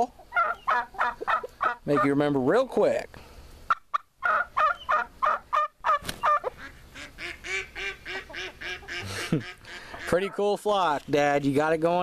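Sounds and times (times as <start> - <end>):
poultry squawking: 0.0 - 2.6, 3.7 - 11.8.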